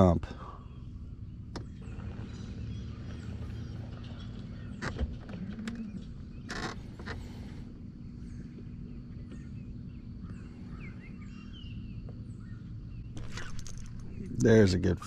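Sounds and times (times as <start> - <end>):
steady low hum: 0.0 - 15.0
birds chirping and whistling: 0.3 - 15.0.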